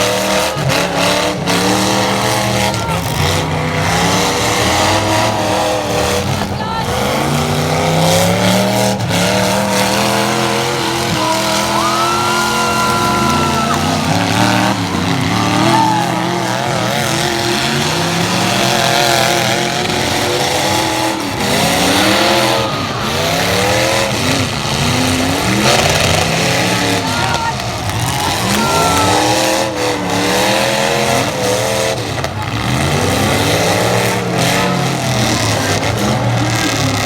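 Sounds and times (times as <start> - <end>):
truck engines revving: 0.0 - 37.0.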